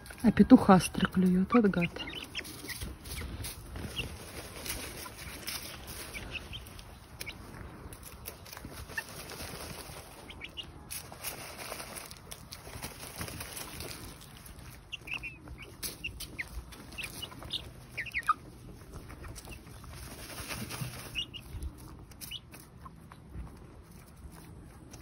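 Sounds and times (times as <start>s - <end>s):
chicks chirping: 0.0s - 25.0s
rustling feathers and dirt: 0.0s - 25.0s.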